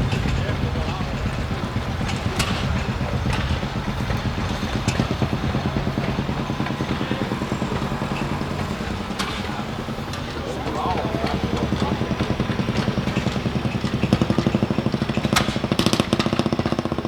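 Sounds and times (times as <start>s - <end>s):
engine running with fast pulse: 0.0s - 17.0s.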